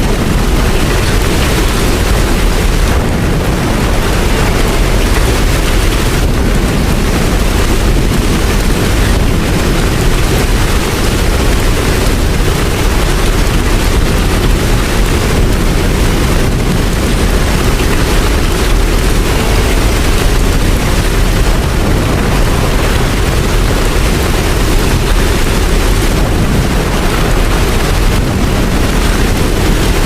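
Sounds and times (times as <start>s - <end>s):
low rumble: 0.0s - 30.0s
steady rain: 0.0s - 30.0s.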